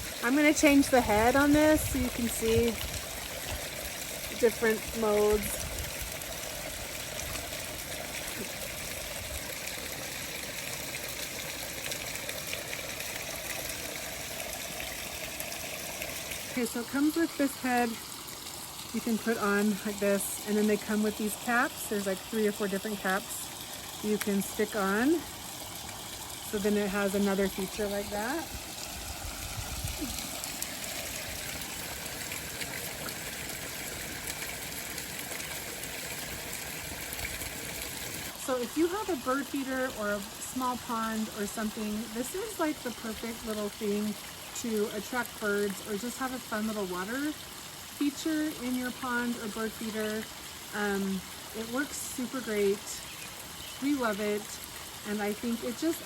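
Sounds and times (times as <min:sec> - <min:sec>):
fountain water splashing: 0:00.0 - 0:56.0.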